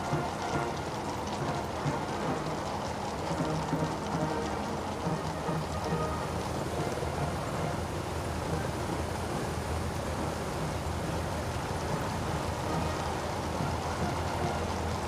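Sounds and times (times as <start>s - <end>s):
outdoor hiss: 0.0s - 15.0s
vehicle engines humming: 0.0s - 15.0s.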